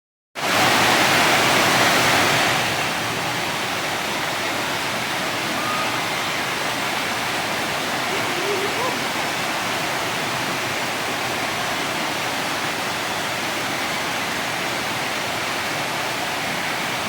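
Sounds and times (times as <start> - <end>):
heavy rain: 0.4 - 17.0.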